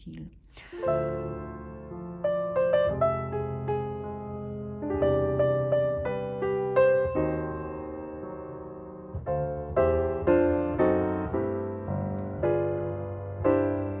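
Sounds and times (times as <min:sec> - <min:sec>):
slow gentle piano music: 0:00.8 - 0:14.0.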